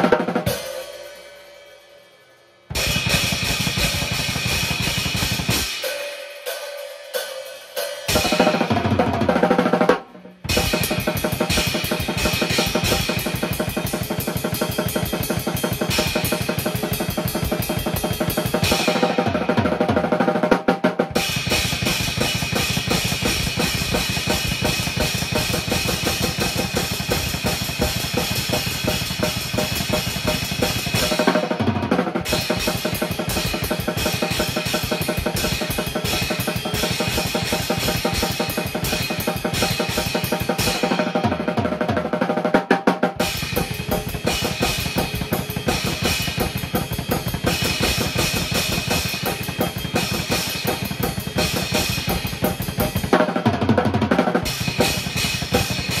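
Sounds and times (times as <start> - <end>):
drum kit playing fast: 0.0 - 1.5, 2.7 - 56.0.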